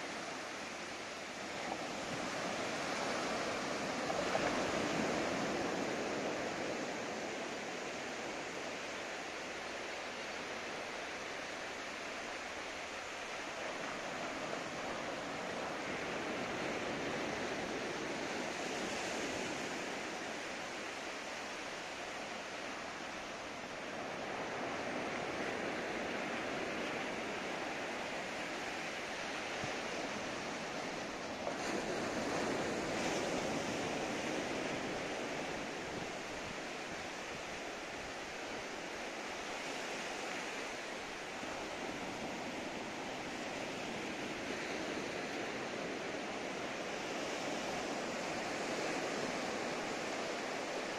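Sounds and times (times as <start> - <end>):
waves washing on sand: 0.0 - 50.9.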